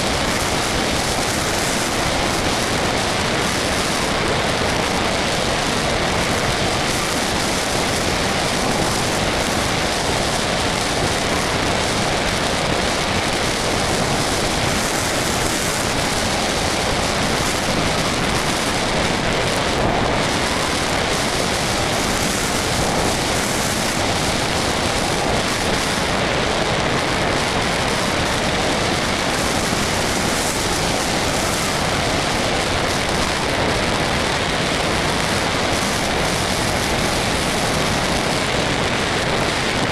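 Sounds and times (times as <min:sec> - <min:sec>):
rushing airflow noise: 0:00.0 - 0:39.9.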